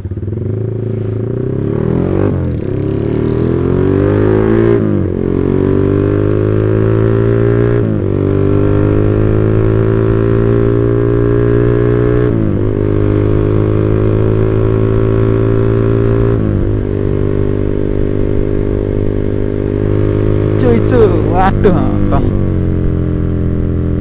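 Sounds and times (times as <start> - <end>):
motorcycle accelerating: 0.0 - 24.0.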